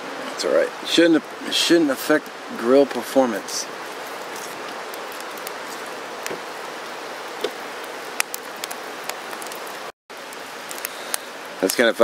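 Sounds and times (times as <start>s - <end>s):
wood fire hissing: 0.0s - 12.0s
fire crackling and popping: 0.1s - 12.0s.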